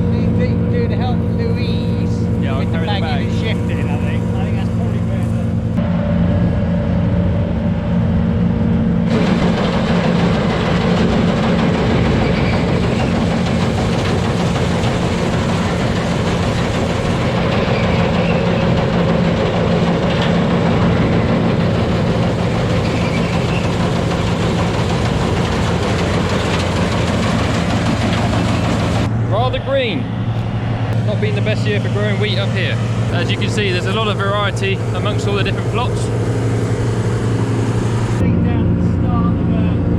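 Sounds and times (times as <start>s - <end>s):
mechanical rushing and clattering: 0.0s - 5.8s, 9.0s - 29.1s, 31.0s - 38.2s
combine harvester engine running: 0.0s - 39.9s.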